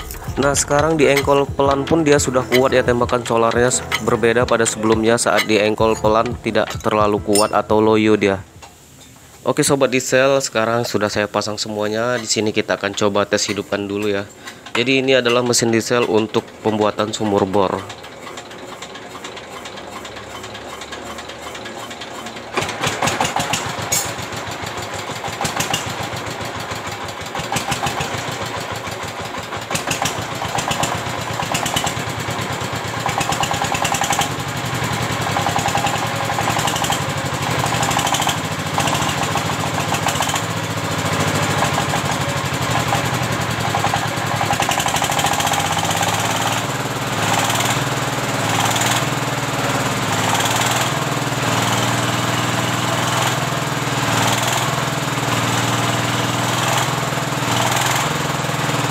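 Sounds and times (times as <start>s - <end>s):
fast ticking of engine cranking: 0.0s - 8.8s, 9.6s - 58.9s
diesel engine running: 0.0s - 58.9s.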